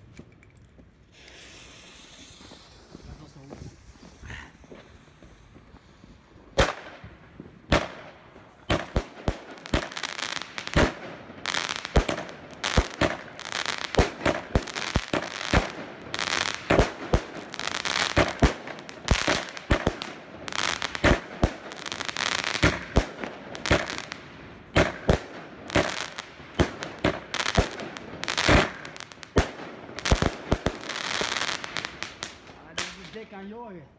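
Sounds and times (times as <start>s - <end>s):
firework hiss: 1.0s - 6.8s, 9.7s - 24.2s, 24.8s - 33.2s.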